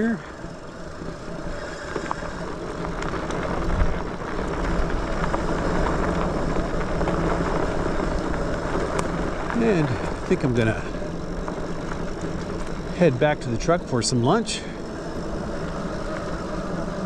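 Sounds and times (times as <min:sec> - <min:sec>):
electric motor hum: 0:00.0 - 0:17.0
tyres rolling over dirt: 0:00.0 - 0:17.0.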